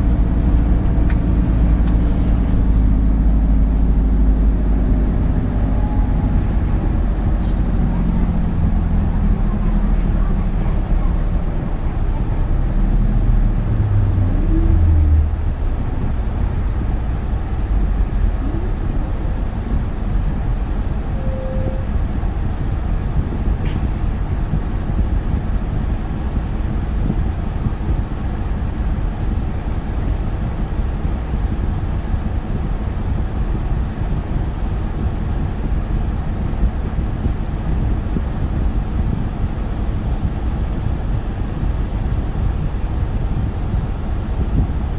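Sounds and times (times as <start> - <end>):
bus engine droning: 0.0 - 44.9
road noise: 0.0 - 44.9.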